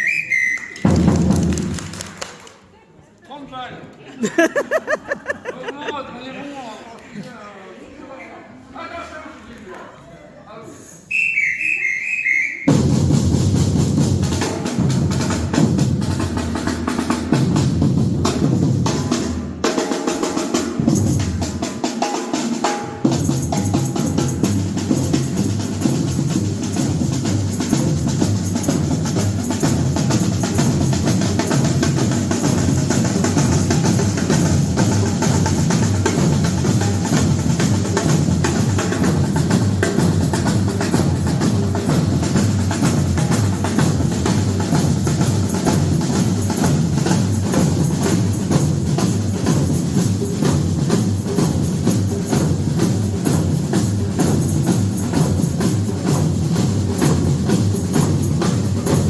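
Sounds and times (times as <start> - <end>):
drum group playing: 0.0 - 2.4, 4.2 - 5.9, 12.6 - 59.0.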